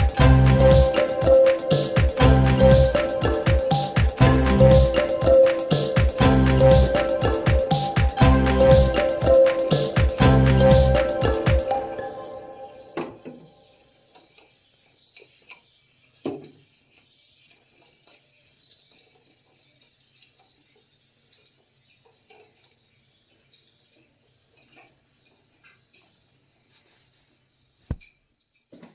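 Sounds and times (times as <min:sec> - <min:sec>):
steady hiss: 0:00.0 - 0:28.7.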